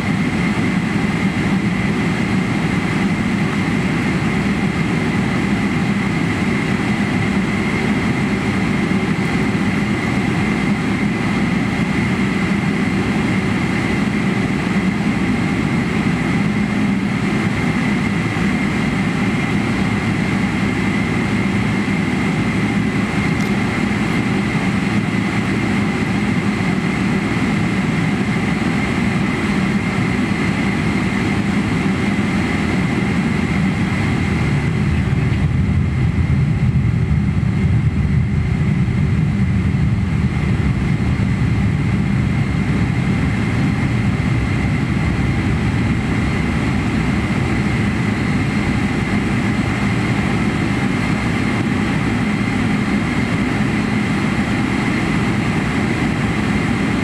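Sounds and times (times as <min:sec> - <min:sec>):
jet engines idling whine: 0:00.0 - 0:57.0.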